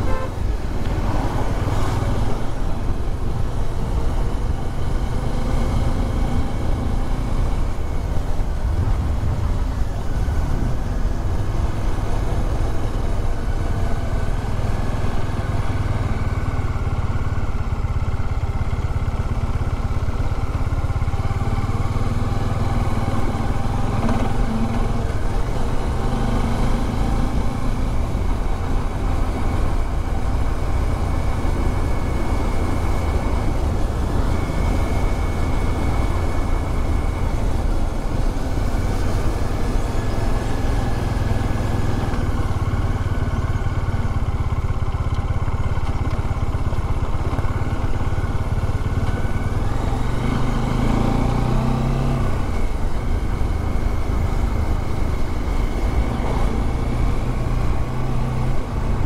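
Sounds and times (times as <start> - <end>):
wind and road noise: 0.0 - 59.0
motorcycle engine running: 3.3 - 59.0.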